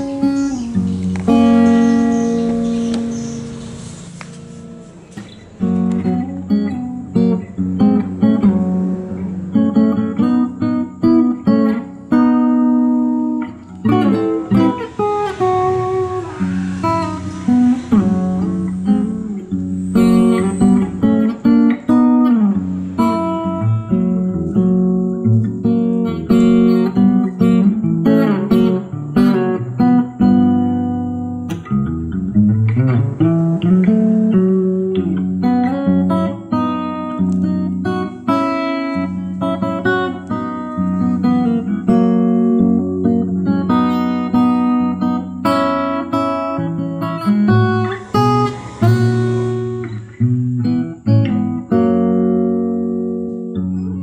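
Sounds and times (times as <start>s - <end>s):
guitar plucking quick notes: 0.0s - 51.8s.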